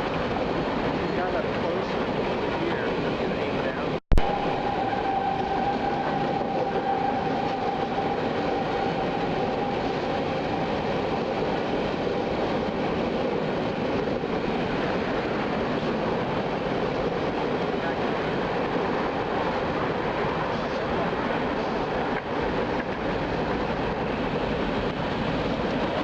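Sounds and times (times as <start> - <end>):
freight train rumbling on rails: 0.0 - 26.0.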